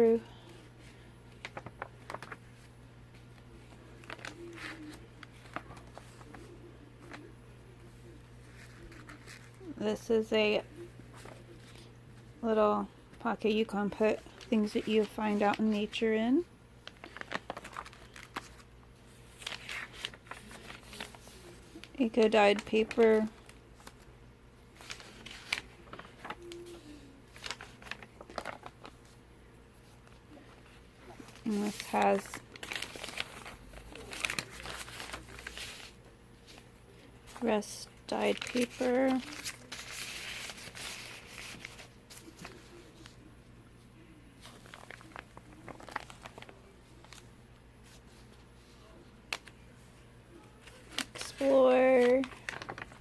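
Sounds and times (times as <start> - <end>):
paper pages rustling: 0.3 - 9.7, 10.6 - 12.4, 13.8 - 16.0, 16.8 - 24.1, 24.7 - 29.2, 29.8 - 53.0.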